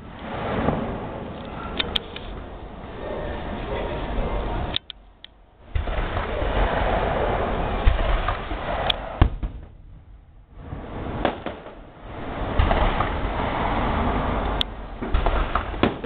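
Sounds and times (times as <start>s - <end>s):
fireworks booming and cracking: 0.0s - 4.7s, 5.6s - 16.0s.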